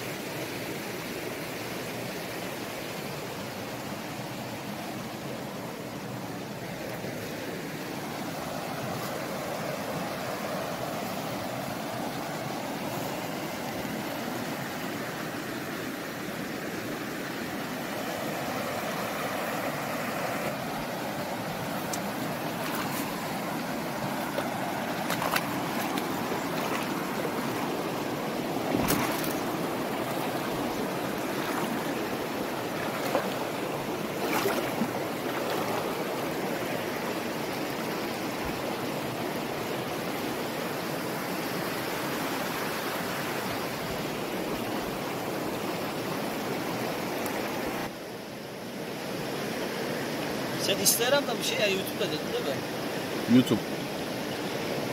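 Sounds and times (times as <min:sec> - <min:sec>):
river rushing over rocks: 0:00.0 - 0:54.9.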